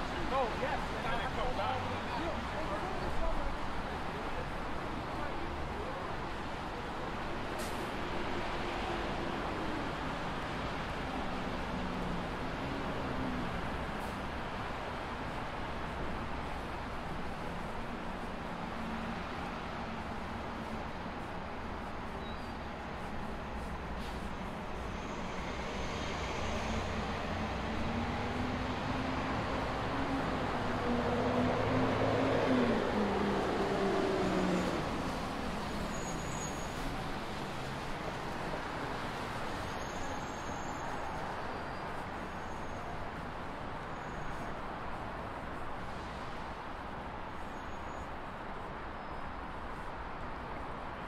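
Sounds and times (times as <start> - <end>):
city street traffic: 0.0 - 51.0
rumble of vehicles: 0.0 - 51.0.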